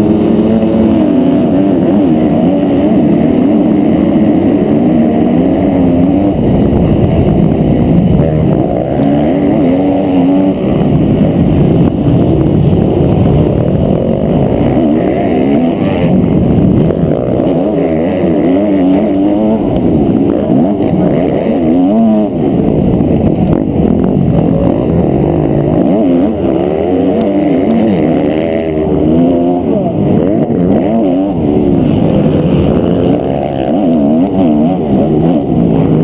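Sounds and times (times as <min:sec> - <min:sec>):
motocross engine revving: 0:00.0 - 0:36.0.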